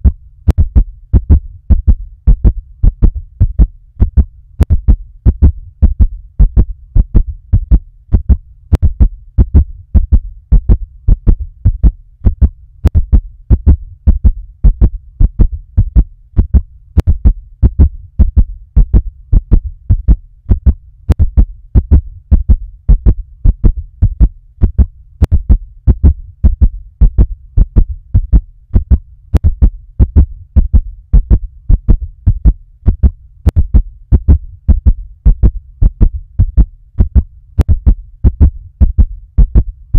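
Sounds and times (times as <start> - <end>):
fast heartbeat thuds: 0.0 - 39.9
low hum: 0.0 - 39.9.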